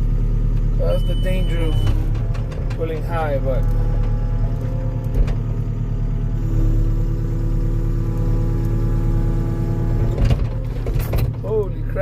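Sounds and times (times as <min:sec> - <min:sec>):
heavy equipment engine under load: 0:00.0 - 0:12.0.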